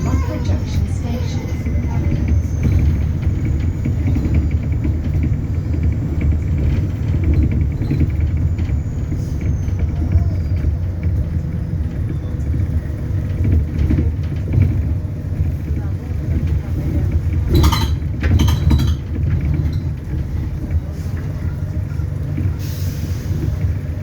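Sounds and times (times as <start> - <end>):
bus rumbling: 0.0 - 24.0.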